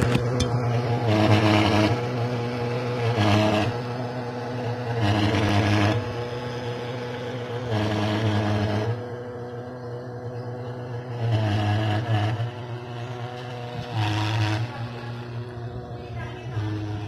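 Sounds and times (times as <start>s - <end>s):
fogging machine drone: 0.0s - 17.0s.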